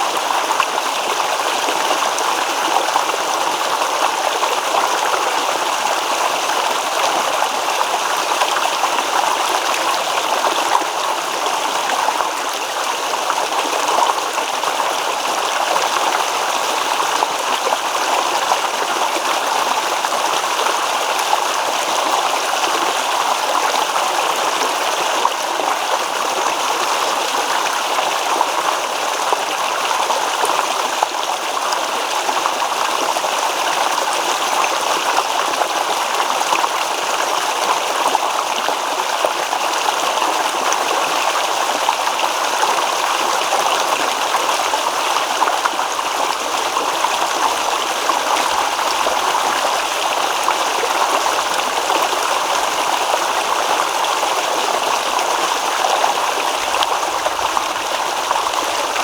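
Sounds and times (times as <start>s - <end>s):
stream babbling and splashing: 0.0s - 59.0s.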